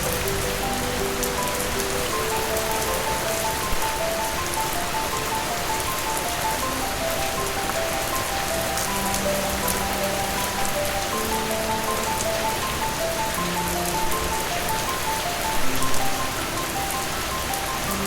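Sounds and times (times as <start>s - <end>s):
rain falling: 0.0s - 18.0s
slow melody: 0.0s - 18.0s.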